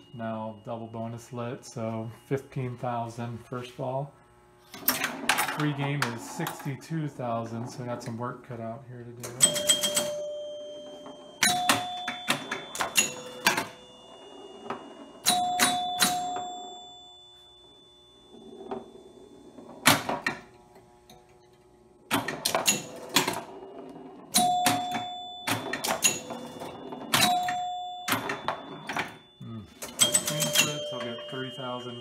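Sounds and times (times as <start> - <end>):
pinball scoring chimes: 4.7 - 8.2, 9.2 - 21.5, 22.1 - 32.0.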